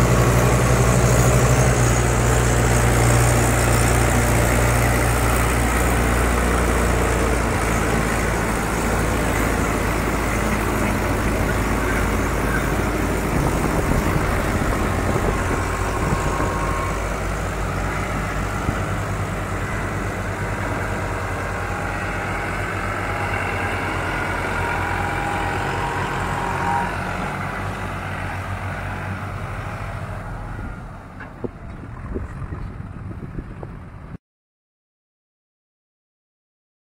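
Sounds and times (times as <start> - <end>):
tractor diesel engine running: 0.0 - 34.2.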